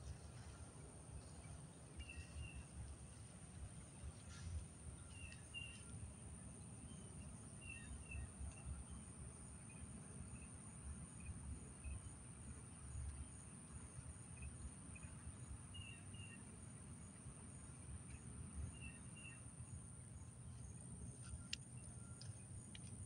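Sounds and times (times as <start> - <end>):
insect chirps: 0.0 - 23.0.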